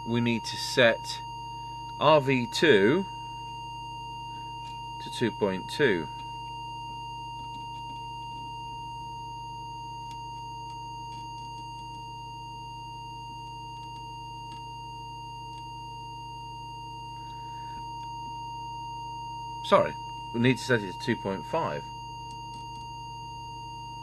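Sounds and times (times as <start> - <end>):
low hum: 0.0 - 24.0
steady test tone: 0.0 - 24.0.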